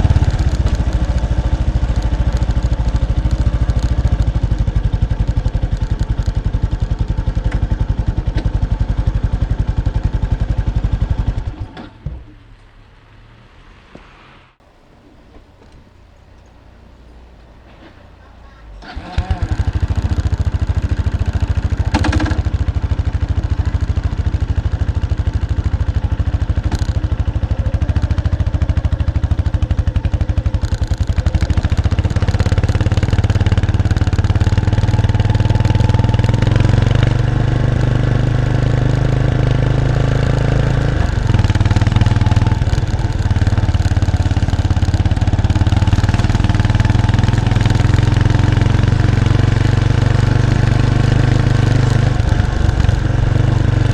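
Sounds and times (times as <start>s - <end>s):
motorcycle engine exhaust: 0.0s - 11.9s, 14.6s - 53.9s.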